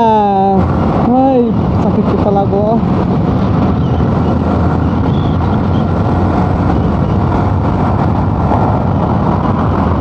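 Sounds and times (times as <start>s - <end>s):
motorcycle engine running: 0.0s - 10.0s
wind rush on microphone: 0.0s - 10.0s.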